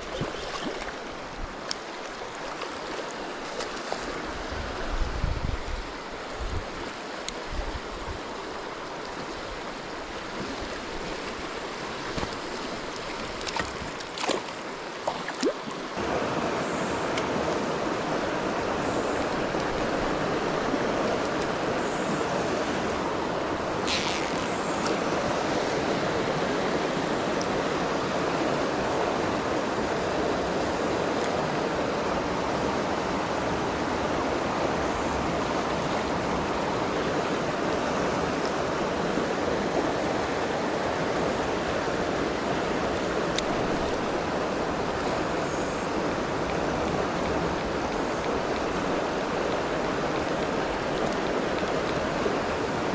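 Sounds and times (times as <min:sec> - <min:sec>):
rushing river water: 0:00.0 - 0:52.9.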